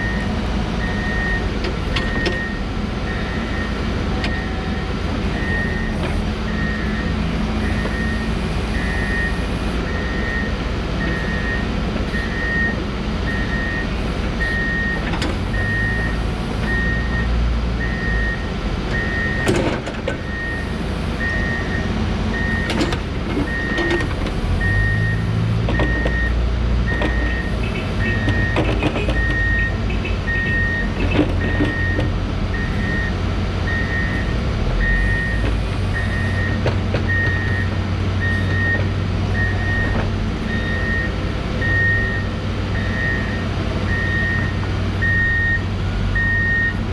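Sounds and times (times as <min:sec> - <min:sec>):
diesel engine working: 0:00.0 - 0:46.9.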